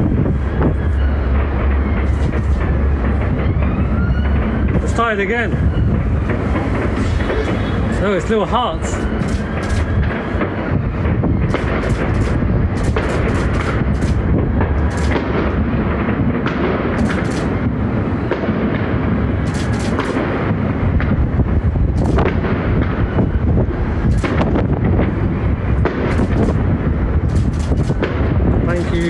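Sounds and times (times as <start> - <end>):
fireworks booming and cracking: 0.0 - 29.0.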